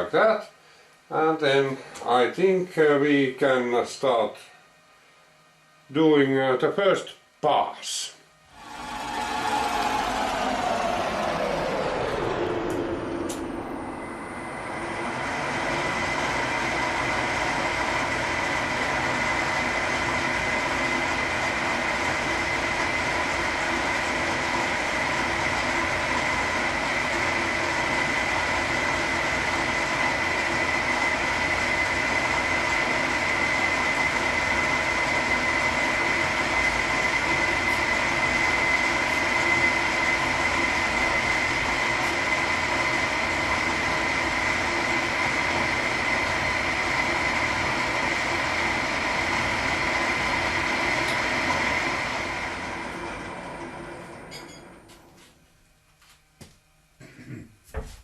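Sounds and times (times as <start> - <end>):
milling machine whine: 8.3 - 55.2.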